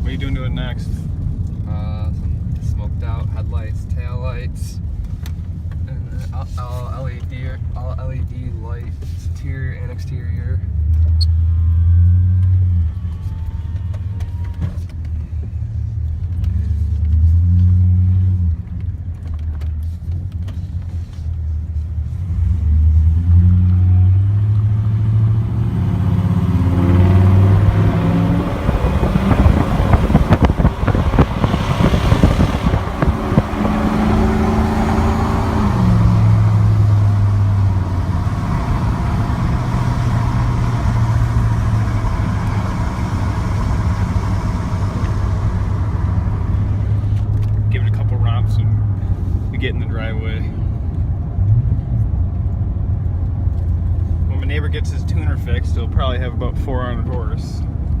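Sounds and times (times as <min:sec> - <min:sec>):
pickup truck engine accelerating: 0:10.4 - 0:58.0.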